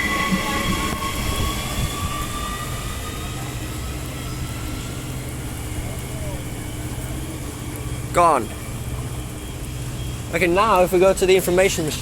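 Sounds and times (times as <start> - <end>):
electric train whine: 0.0 - 12.0.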